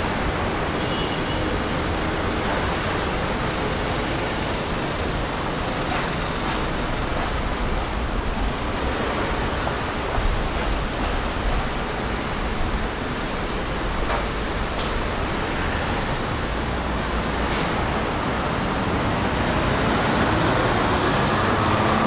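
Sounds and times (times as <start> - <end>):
city street traffic: 0.0 - 22.0.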